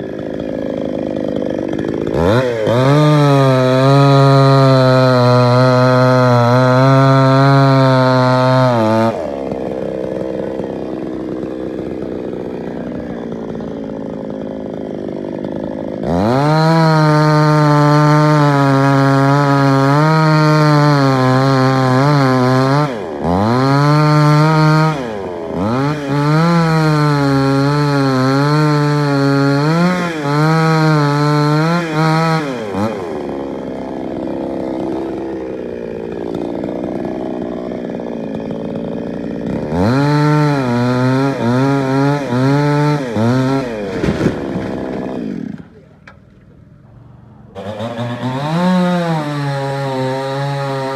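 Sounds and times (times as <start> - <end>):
chainsaw cutting wood: 0.0 - 46.8, 47.5 - 50.9.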